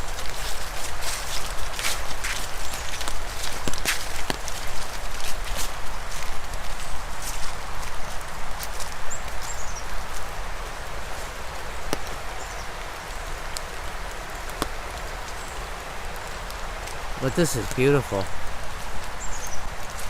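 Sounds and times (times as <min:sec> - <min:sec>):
heavy rain: 0:00.0 - 0:20.0
rushing creek: 0:00.0 - 0:20.0.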